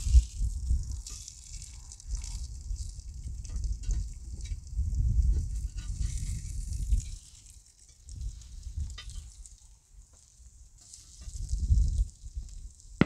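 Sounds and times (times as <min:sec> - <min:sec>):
wind rumbling on microphone: 0:00.0 - 0:09.6, 0:11.2 - 0:13.0.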